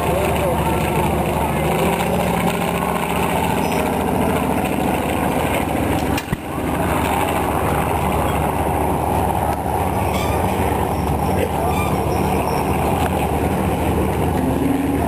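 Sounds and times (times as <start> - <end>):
airplane engine droning overhead: 0.0 - 15.0.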